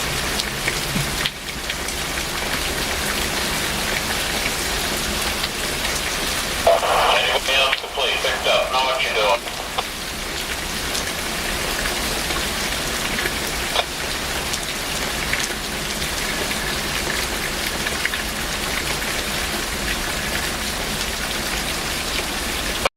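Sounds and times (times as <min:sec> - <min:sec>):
heavy rain pattering: 0:00.0 - 0:22.9
sharp drips and splats: 0:00.0 - 0:22.9.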